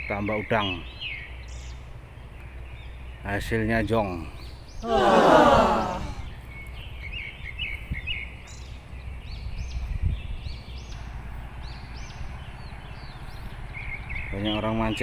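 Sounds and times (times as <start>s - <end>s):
small birds chirping: 0.0s - 4.9s, 6.2s - 15.0s.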